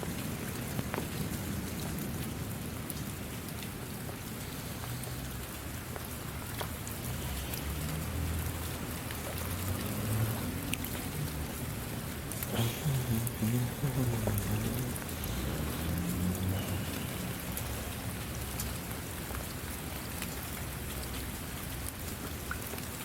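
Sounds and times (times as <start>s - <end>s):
raindrops ticking on a surface: 0.0s - 23.0s
steady rainfall: 0.0s - 23.0s.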